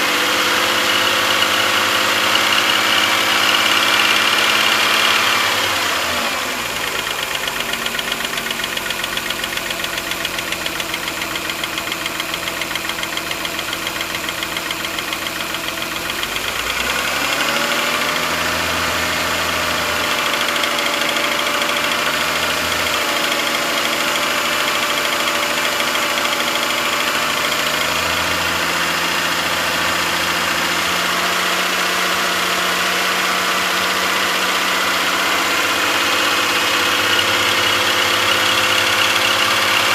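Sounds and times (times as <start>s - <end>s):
car engine running: 0.1s - 39.9s.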